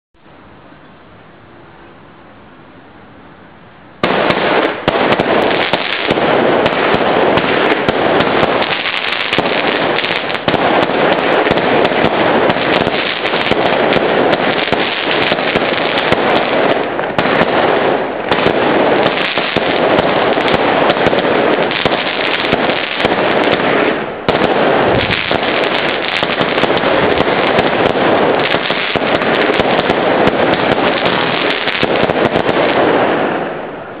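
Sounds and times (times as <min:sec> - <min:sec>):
fireworks crackling pops and bursts: 0:04.0 - 0:34.0.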